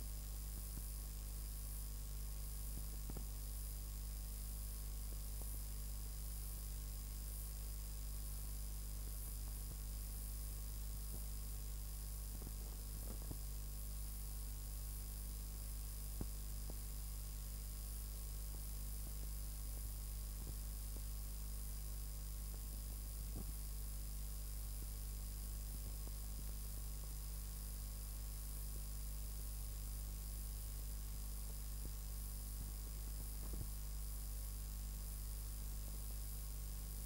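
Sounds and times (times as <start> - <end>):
faint high-pitched whines: 0.0 - 37.0
low electrical hum: 0.0 - 37.0.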